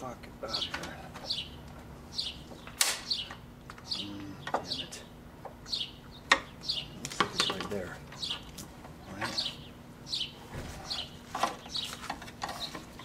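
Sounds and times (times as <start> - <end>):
bird chirping: 0.4 - 13.0.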